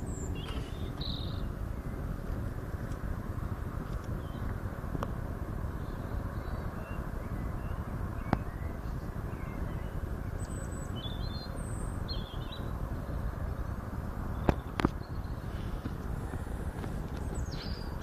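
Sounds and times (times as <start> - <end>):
low rumble of outdoor noise: 0.0 - 18.0
small birds chirping faintly: 0.0 - 18.0.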